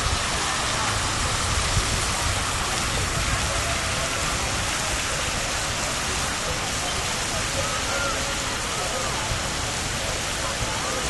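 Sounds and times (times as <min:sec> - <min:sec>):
fountain jets splashing into pool: 0:00.0 - 0:11.0.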